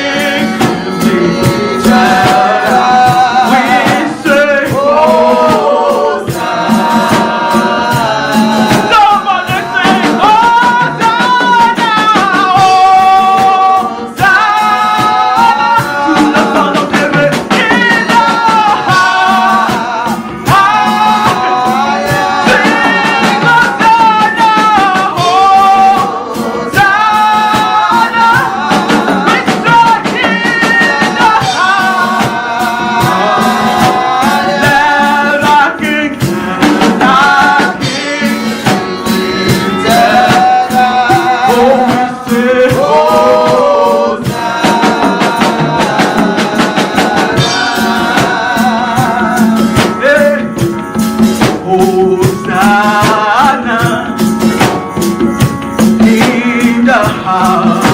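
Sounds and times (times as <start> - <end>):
gospel singing: 0.0 - 57.9
shakers and tambourine rhythm: 0.0 - 57.9.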